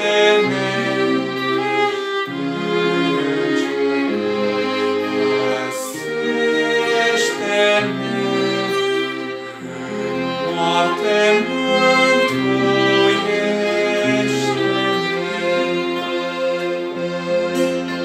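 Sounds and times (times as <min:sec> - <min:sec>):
bowed strings sustained chords: 0:00.0 - 0:18.0.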